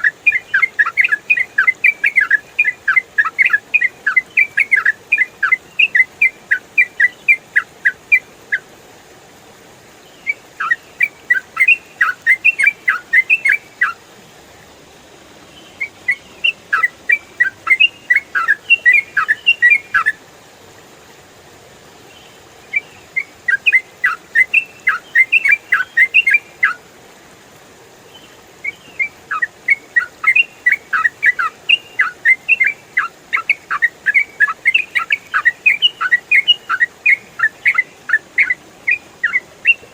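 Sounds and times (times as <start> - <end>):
bird singing whistled notes: 0.0 - 8.6, 10.1 - 14.0, 15.6 - 20.2, 22.1 - 26.8, 28.2 - 39.9.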